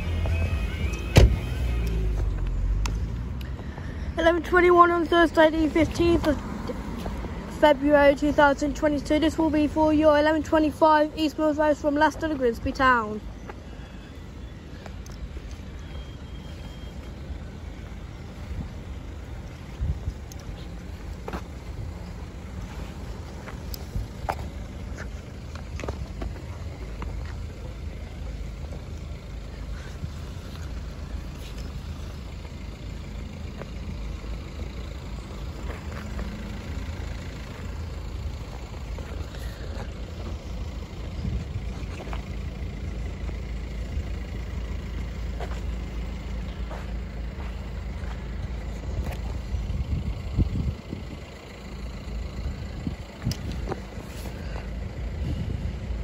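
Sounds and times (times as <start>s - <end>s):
cars idling low rumble: 0.0s - 56.0s.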